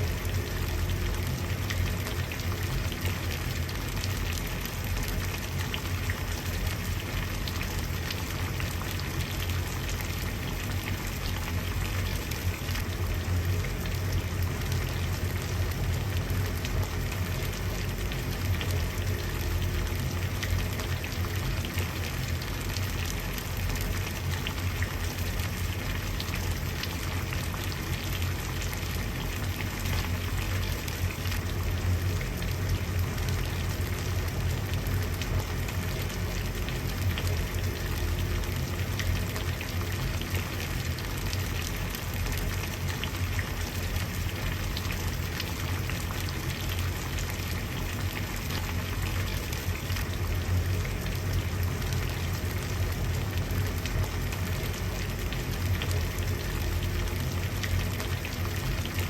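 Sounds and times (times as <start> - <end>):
water boiling: 0.0 - 59.0.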